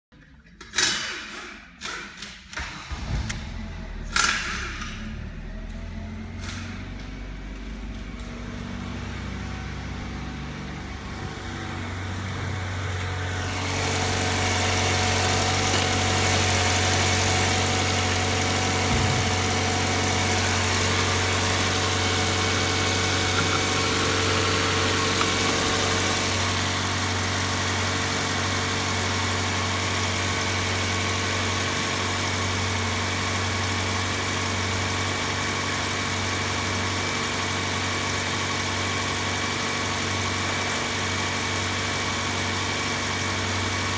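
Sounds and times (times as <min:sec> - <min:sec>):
car engine idling: 0:02.8 - 0:43.9.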